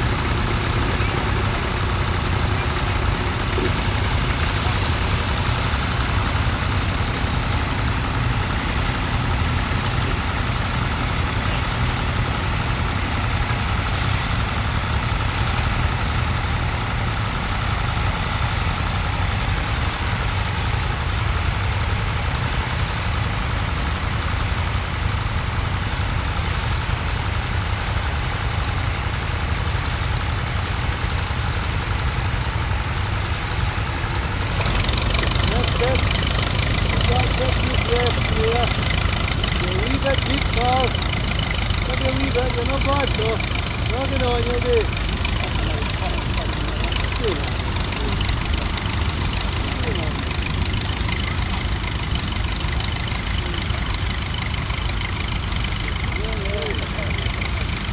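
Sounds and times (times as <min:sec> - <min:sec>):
tractor engine running under load: 0:00.0 - 0:57.9.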